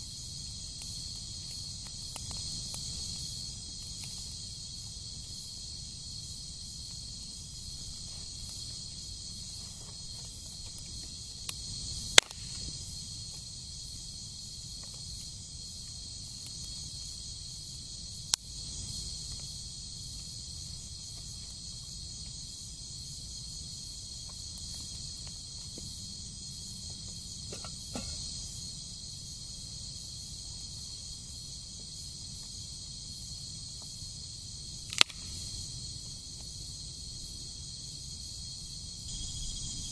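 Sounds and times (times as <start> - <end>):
insects pulsing chorus: 0.0 - 39.9.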